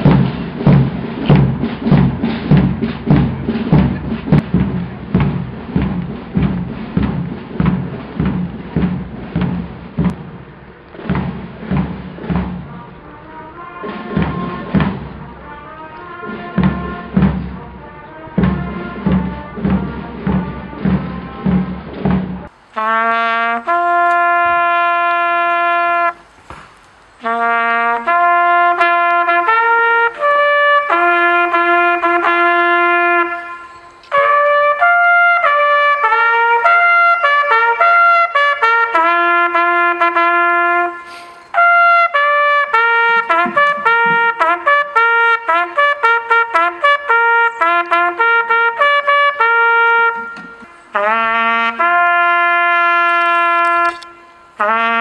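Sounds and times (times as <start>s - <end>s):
bugle playing long notes: 0.0s - 10.6s, 11.2s - 26.4s, 27.2s - 55.0s
marching band music: 0.0s - 26.6s, 27.2s - 55.0s.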